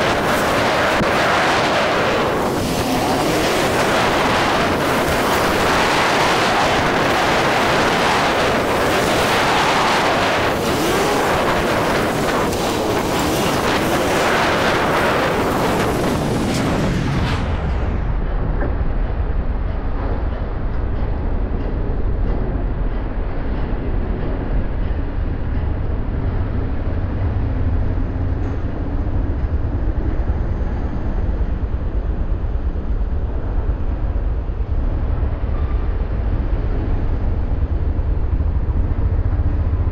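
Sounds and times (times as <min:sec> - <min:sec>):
slow city traffic rumble: 0:00.0 - 0:39.9
wind rushing over microphone: 0:00.0 - 0:39.9.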